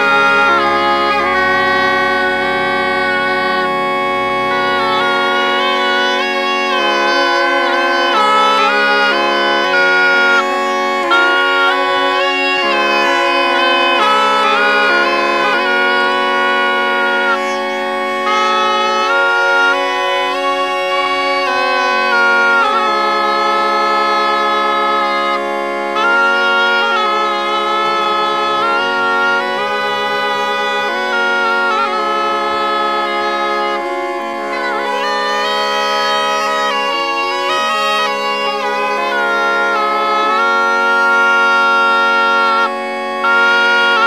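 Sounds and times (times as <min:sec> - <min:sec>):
bagpipe drone: 0:00.0 - 0:44.0
bagpipe melody: 0:00.0 - 0:44.0.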